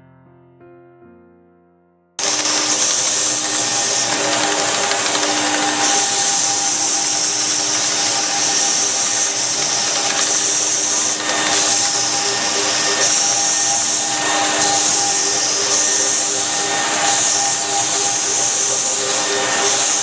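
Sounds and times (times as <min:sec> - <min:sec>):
floor-care machine motor running: 0:02.2 - 0:20.0.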